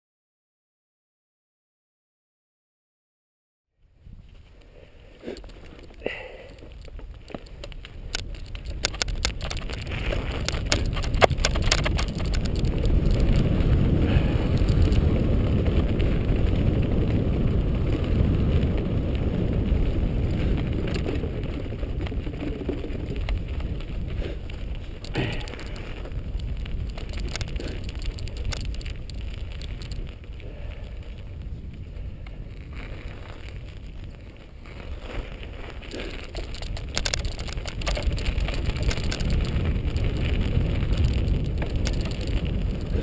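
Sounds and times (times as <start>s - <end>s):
wind on microphone: 3.9s - 43.0s
bike rattles and clicks: 4.0s - 43.0s
tyres rumbling on dirt: 5.0s - 43.0s.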